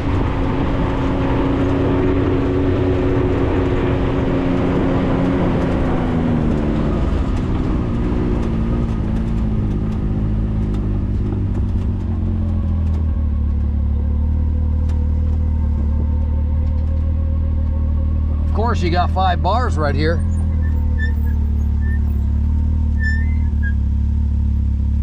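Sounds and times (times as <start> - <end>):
vehicle engine droning: 0.0 - 25.0.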